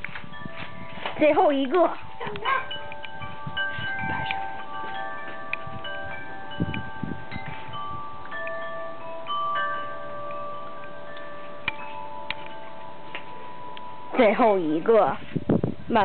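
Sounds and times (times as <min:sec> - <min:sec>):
metal wind chime ringing: 0:00.0 - 0:16.0.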